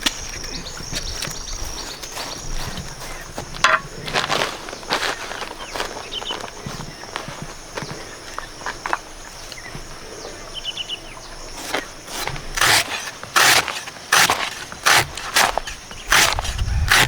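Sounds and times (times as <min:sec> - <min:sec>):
rustling crunching strokes: 0:00.0 - 0:09.9, 0:11.3 - 0:17.0
insects buzzing: 0:00.0 - 0:17.0.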